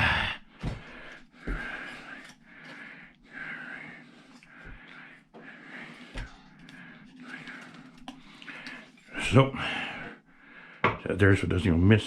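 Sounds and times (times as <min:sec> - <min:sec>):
man breathing heavily: 0:00.0 - 0:10.9.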